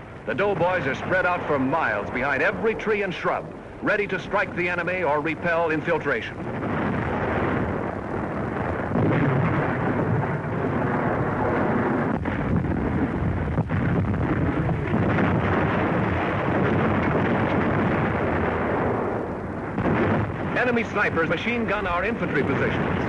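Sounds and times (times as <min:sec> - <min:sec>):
artillery and gunfire din: 0:00.1 - 0:23.0.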